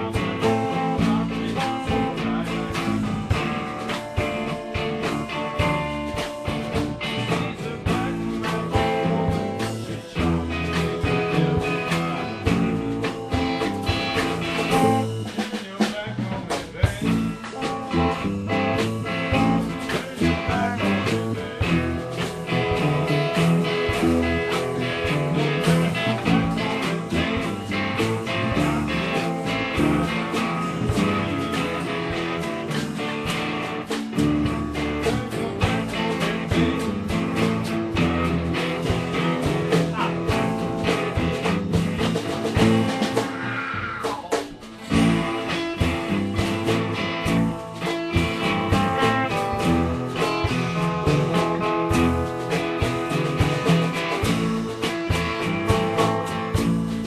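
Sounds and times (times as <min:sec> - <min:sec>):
blues-rock guitar music: 0:00.0 - 0:57.0.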